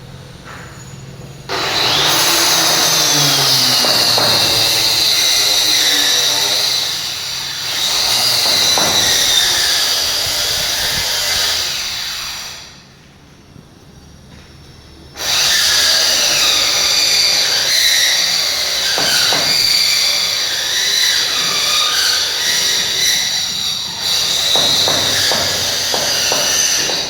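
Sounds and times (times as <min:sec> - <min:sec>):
power tool whining on wood: 0:01.0 - 0:12.8, 0:15.2 - 0:27.0.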